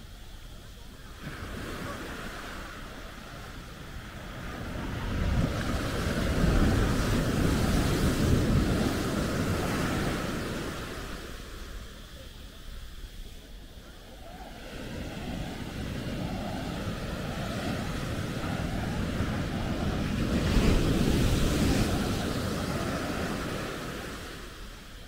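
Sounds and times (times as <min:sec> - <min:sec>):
ocean surf breaking on sand: 0:00.0 - 0:25.0.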